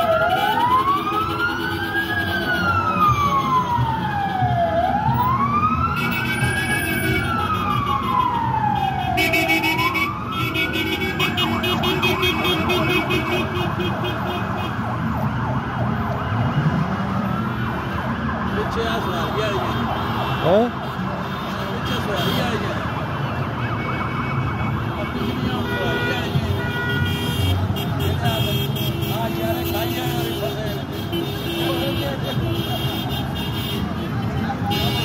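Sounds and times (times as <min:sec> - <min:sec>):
passing traffic: 0:00.0 - 0:35.0
sirens wailing: 0:00.0 - 0:35.0.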